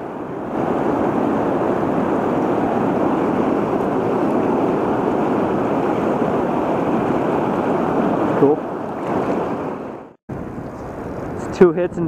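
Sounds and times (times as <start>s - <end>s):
fast-flowing river water: 0.0s - 10.1s.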